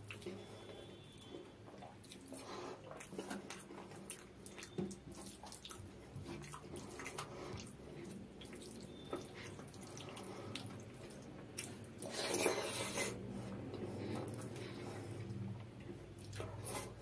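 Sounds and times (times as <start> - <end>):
wet eating sound: 0.0 - 17.0.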